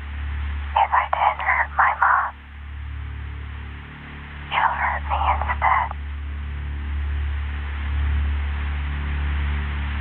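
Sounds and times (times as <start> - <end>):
dark ambient droning music: 0.0 - 10.0.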